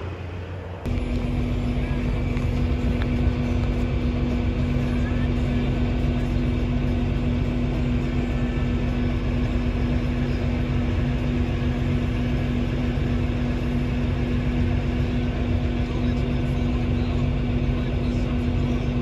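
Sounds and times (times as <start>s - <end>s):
plane engine and propeller drone: 0.0s - 19.0s.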